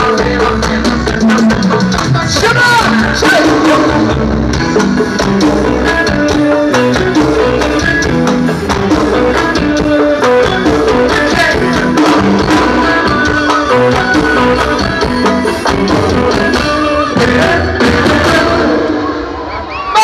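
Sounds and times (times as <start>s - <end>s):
loud live band music over speakers: 0.0s - 20.0s.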